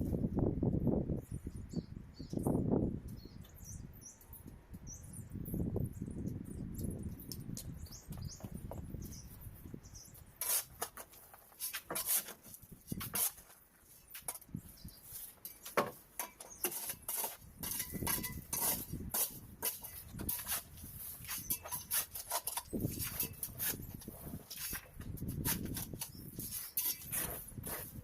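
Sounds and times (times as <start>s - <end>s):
small birds chirping: 1.1s - 10.4s, 13.8s - 24.9s, 25.9s - 28.0s.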